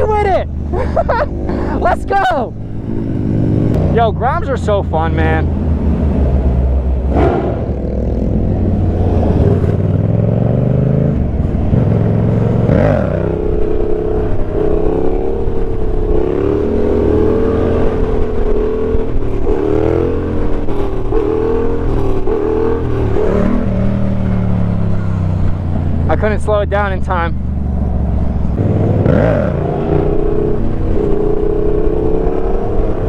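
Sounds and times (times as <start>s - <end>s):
motorcycle engine revving: 0.5s - 33.0s.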